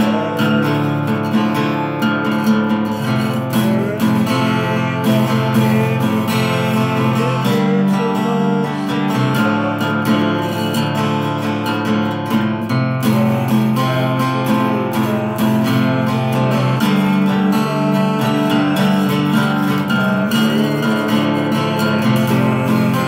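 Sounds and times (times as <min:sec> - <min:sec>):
acoustic guitar strummed: 0:00.0 - 0:23.0.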